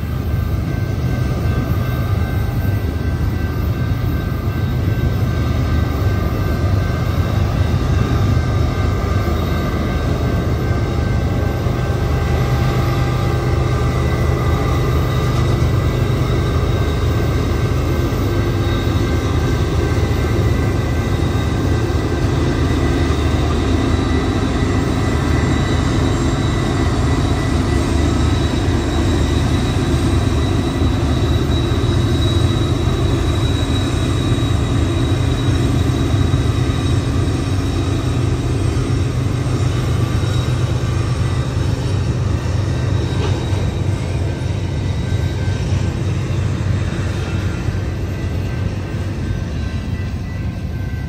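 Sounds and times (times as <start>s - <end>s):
faint high whine: 0.0s - 51.0s
train wheels rumbling on rails: 0.0s - 51.0s.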